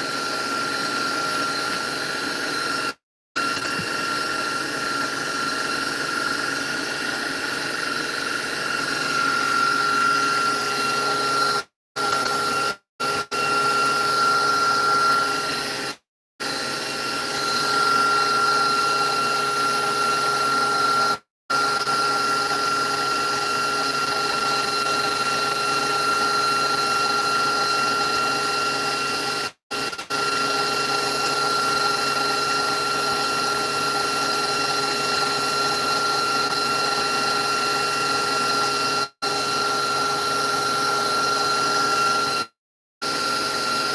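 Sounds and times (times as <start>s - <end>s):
electric mixer motor whine: 0.0s - 43.9s.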